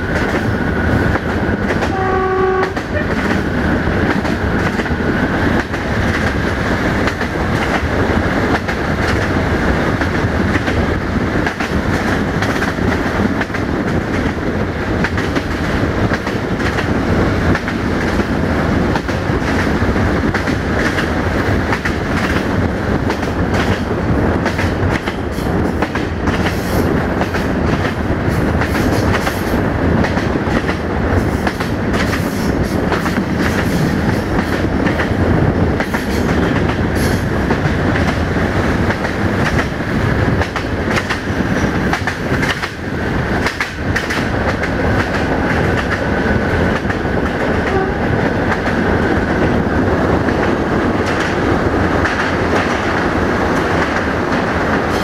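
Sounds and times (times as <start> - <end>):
train rumble and rush: 0.0 - 55.0
wheels clickety-clack: 0.0 - 55.0.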